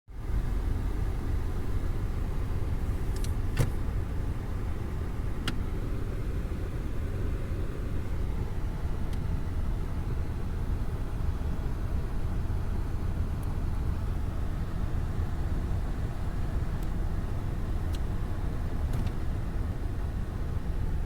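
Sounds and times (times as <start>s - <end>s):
car engine rumble: 0.1s - 21.0s.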